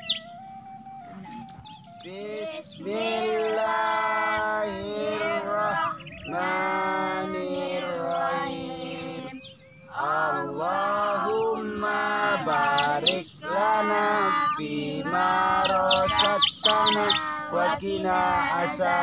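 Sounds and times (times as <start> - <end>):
bird chirping: 0.0 - 19.0
voices chanting a prayer: 0.0 - 19.0.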